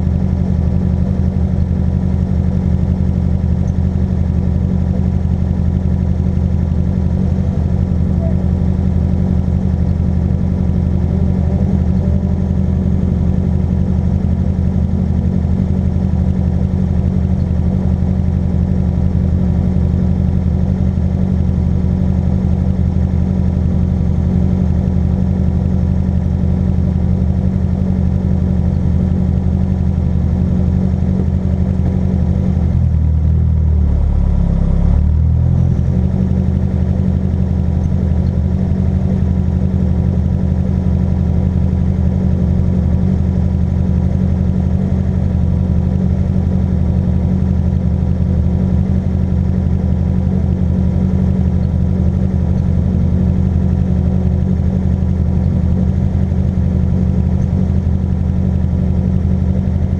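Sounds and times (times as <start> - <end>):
car engine humming: 0.0 - 59.9.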